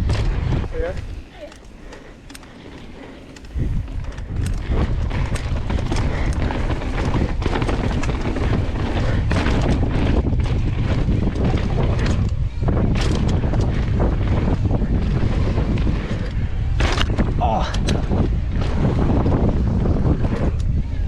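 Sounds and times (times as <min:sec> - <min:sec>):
bike knocks and rattles: 0:00.0 - 0:20.8
wind buffeting microphone: 0:00.0 - 0:21.0.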